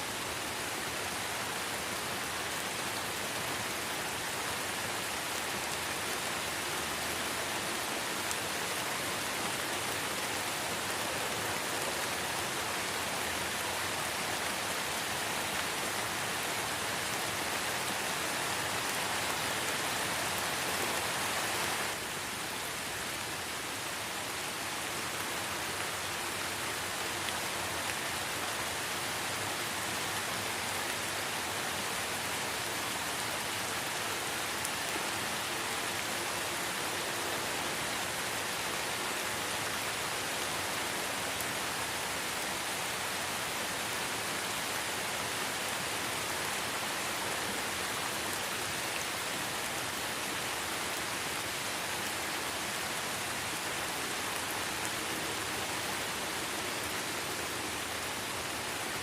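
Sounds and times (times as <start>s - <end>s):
light rain falling in forest: 0.0s - 59.0s.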